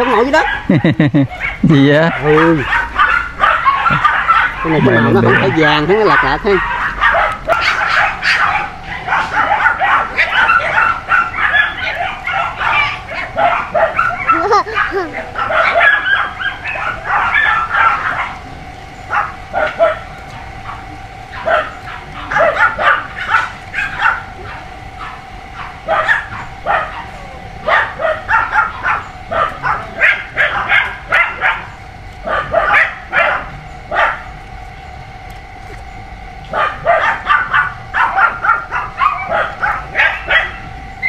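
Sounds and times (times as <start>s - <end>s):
puppies whimpering and yipping: 0.0s - 34.3s, 36.6s - 40.7s.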